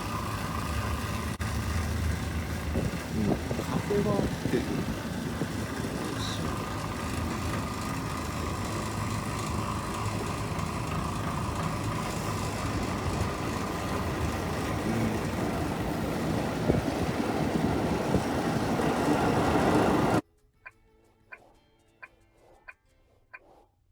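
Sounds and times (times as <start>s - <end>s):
air cooler mechanical hum: 0.0s - 20.2s.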